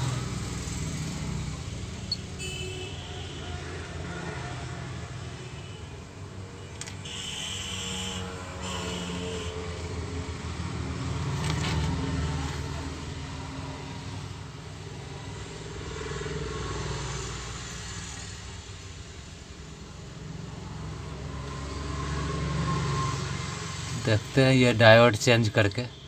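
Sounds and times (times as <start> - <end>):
rumble of passing road vehicles: 0.0 - 26.0.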